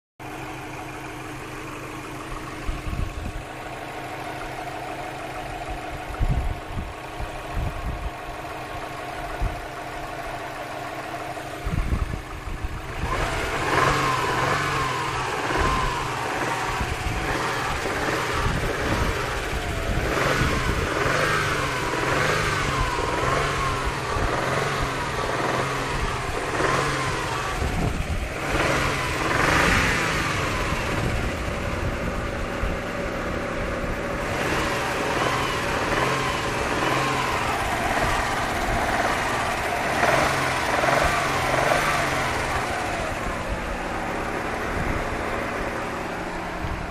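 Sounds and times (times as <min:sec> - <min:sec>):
car engine idling: 0:00.2 - 0:46.9
car engine revving: 0:00.3 - 0:46.9.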